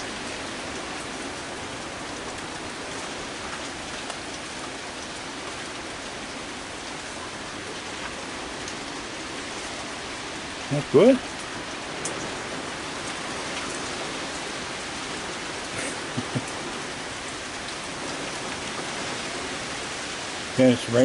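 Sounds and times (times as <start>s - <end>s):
heavy rain: 0.0s - 21.0s
faint drips and ticks: 0.4s - 21.0s.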